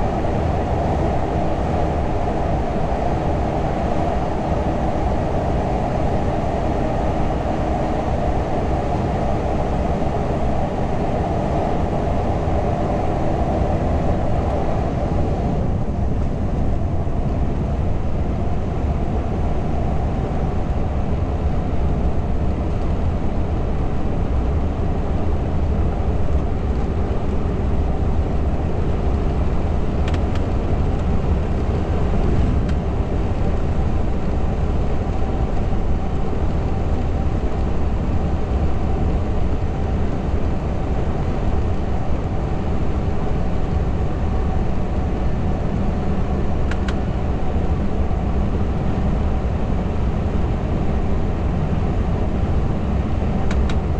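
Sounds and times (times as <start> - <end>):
truck engine and road drone: 0.0 - 53.9.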